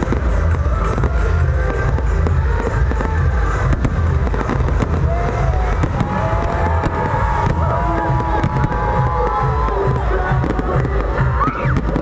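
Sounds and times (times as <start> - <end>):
crowd voices: 0.0 - 12.0
firework shells bursting and crackling: 0.0 - 12.0.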